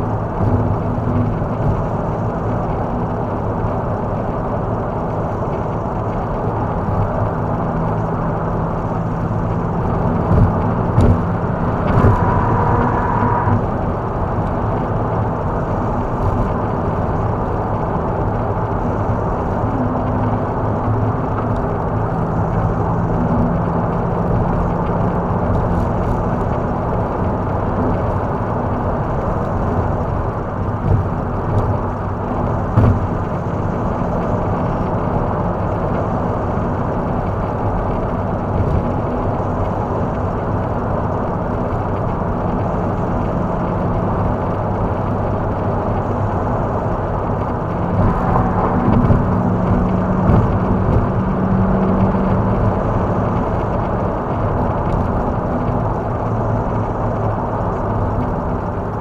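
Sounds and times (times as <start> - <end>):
low engine drone: 0.0 - 59.0
tyre and road noise: 0.0 - 59.0.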